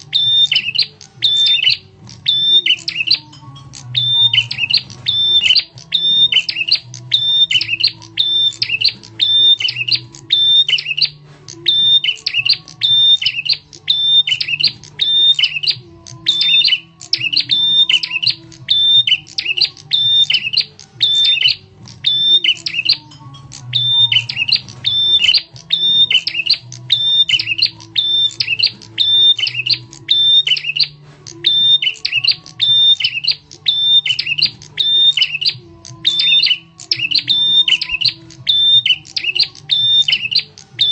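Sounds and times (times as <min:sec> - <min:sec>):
bird sharp chirps: 0:00.0 - 0:40.9.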